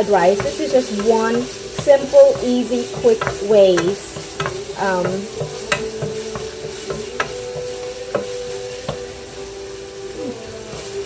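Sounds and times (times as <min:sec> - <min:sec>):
utensil clicking against pan: 0:00.0 - 0:09.1
food sizzling in a pan: 0:00.0 - 0:11.0.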